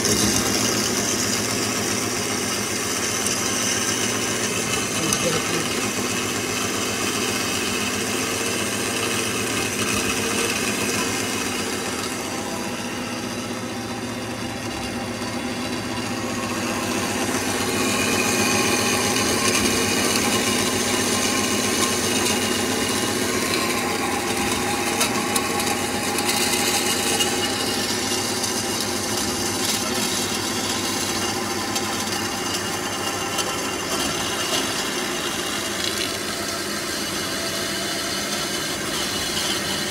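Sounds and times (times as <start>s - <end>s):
band saw machine hum: 0.0s - 39.9s
saw blade grinding through metal: 0.0s - 39.9s.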